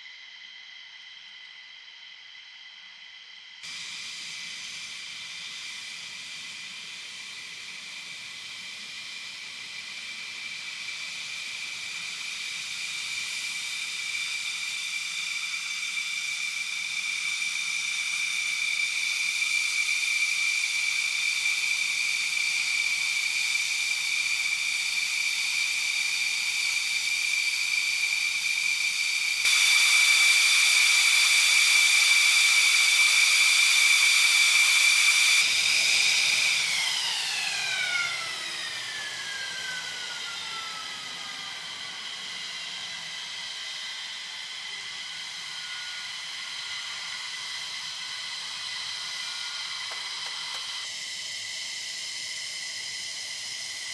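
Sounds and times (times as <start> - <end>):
jet engine turbine whine: 0.0 - 53.9
loud hiss: 0.0 - 53.9
jet engine rushing hiss: 3.6 - 53.9.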